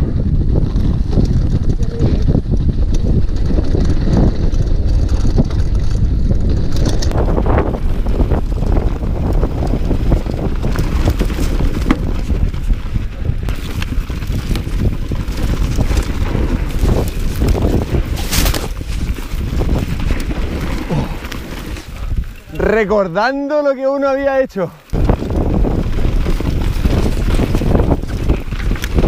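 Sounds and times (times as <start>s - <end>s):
wind buffeting microphone: 0.0s - 23.5s, 24.2s - 29.0s
bike frame and chain rattling: 0.2s - 23.3s, 24.9s - 29.0s
tyres rolling on dirt: 0.5s - 29.0s.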